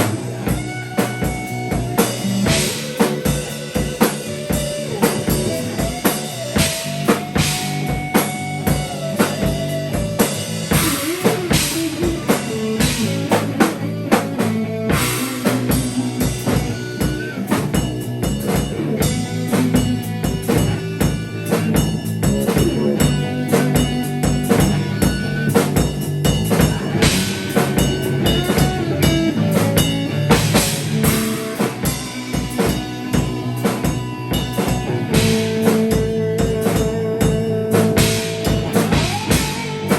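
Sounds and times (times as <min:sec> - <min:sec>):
bass notes: 0:00.0 - 0:39.9
drum kit groove: 0:00.0 - 0:39.9.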